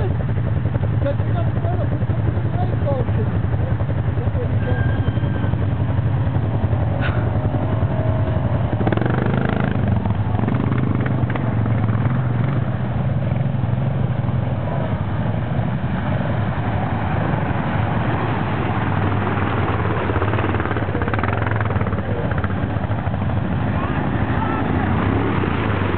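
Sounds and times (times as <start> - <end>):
quad engines droning: 0.0 - 25.9.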